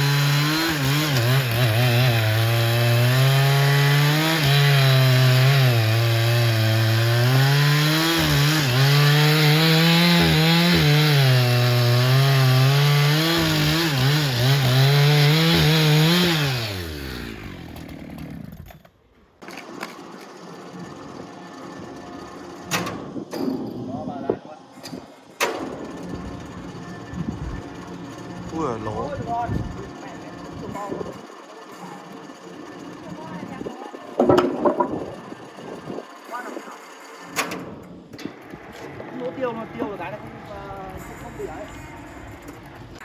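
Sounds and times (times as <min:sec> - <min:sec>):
power saw cutting log: 0:00.0 - 0:23.2, 0:24.9 - 0:43.0.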